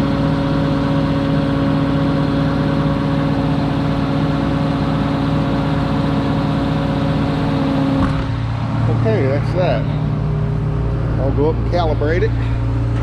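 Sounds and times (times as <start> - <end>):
combine harvester engine idling: 0.0 - 13.0.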